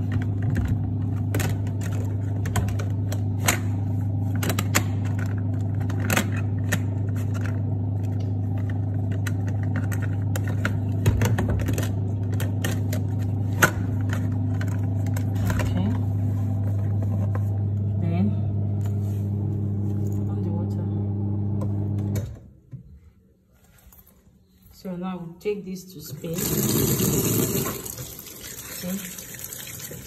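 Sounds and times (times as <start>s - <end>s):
washing machine motor hum: 0.0s - 22.4s, 26.1s - 30.0s.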